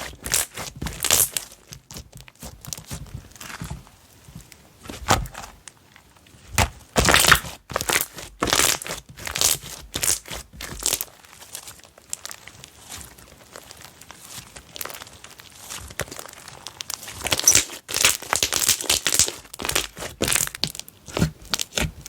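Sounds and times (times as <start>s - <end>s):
slime squelching and crackling: 0.0s - 22.0s.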